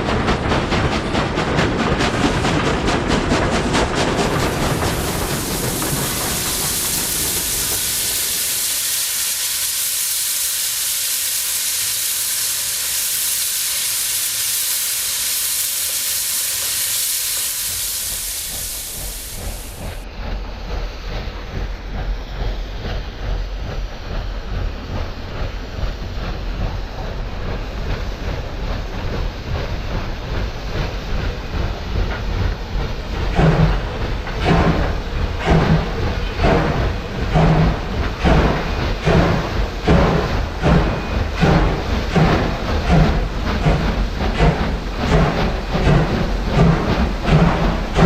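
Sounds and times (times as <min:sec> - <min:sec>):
moving train rumble and clatter: 0:00.0 - 0:48.0
steam locomotive hissing: 0:00.0 - 0:48.0.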